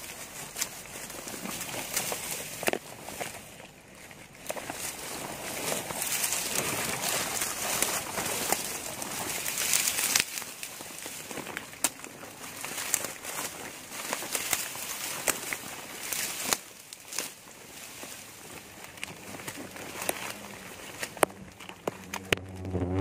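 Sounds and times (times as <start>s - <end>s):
stems snapping: 0.0s - 22.7s
dry grass rustling: 0.0s - 23.0s
plastic suit crinkling: 0.0s - 23.0s.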